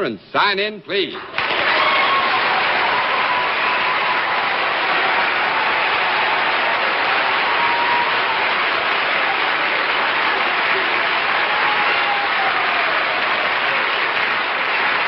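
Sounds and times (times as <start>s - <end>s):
studio audience applauding: 1.3s - 15.0s.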